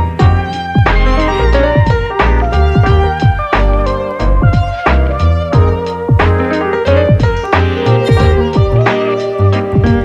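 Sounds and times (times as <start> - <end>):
deep bass: 0.0 - 8.9
background music with steady beat: 0.0 - 10.0.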